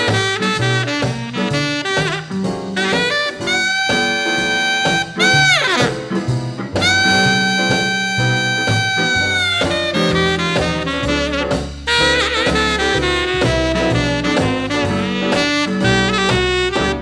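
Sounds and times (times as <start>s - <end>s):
horn holding long notes: 0.0s - 6.0s, 6.8s - 17.0s
dance music with band: 0.0s - 17.0s.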